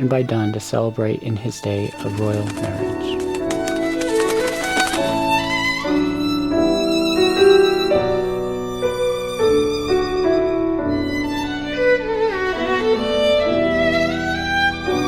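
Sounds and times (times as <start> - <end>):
violin slow melody: 0.0 - 4.2, 4.9 - 15.0.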